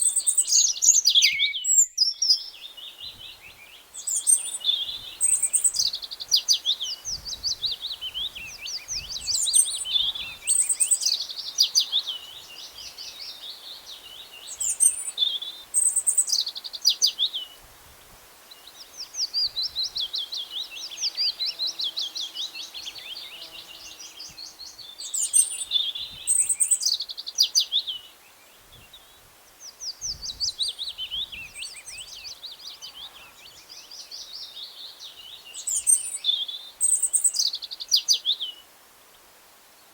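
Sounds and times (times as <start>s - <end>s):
birds chirping and twittering: 0.0s - 17.6s, 18.5s - 38.6s.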